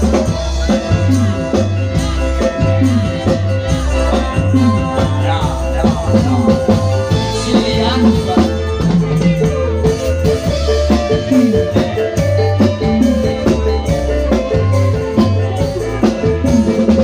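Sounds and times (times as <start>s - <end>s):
electric bass line: 0.0s - 17.0s
keyboard: 0.0s - 17.0s
live band through pa: 0.0s - 17.0s.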